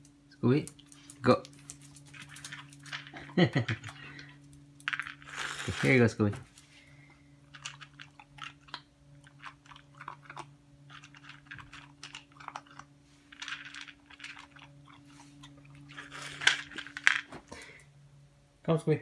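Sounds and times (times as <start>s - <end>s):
faint steady hum: 0.0s - 19.0s
dog crunching dry kibble: 0.5s - 6.2s, 7.4s - 17.4s.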